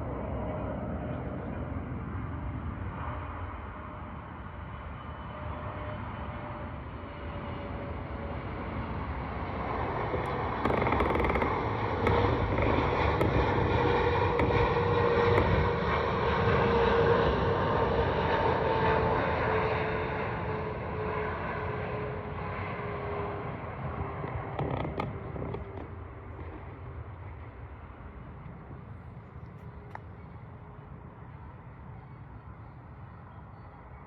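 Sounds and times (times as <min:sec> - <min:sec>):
airliner passing overhead: 0:00.0 - 0:34.0.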